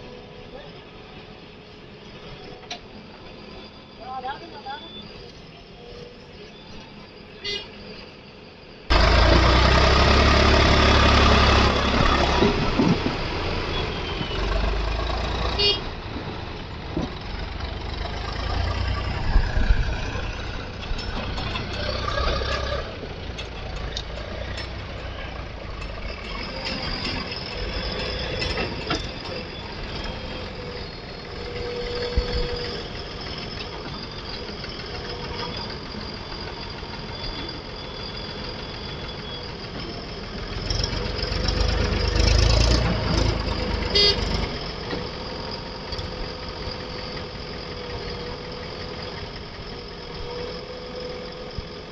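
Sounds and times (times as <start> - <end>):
diesel engine revving under load: 8.9 - 51.9.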